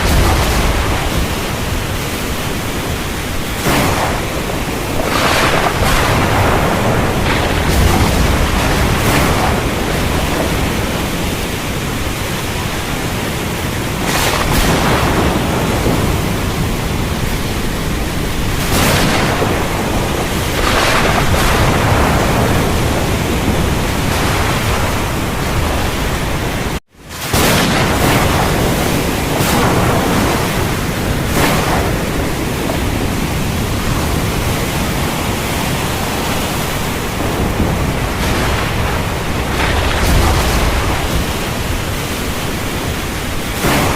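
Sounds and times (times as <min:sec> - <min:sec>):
low thunder rumbling: 0:00.0 - 0:43.9.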